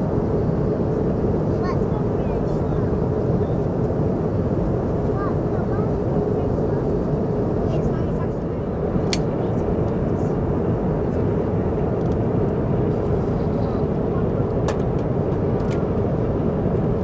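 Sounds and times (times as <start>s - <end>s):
airliner cabin engine rush: 0.0s - 17.0s.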